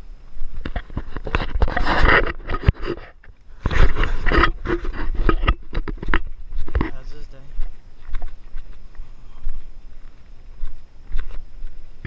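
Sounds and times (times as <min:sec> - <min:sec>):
footsteps on rocky dirt trail: 0:00.0 - 0:12.0
wind rumbling on microphone: 0:00.0 - 0:12.0.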